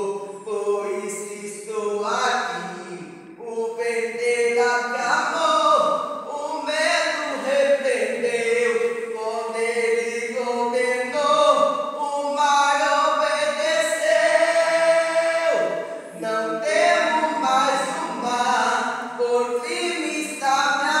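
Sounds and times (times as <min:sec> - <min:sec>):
man singing slow melody: 0:00.0 - 0:21.0.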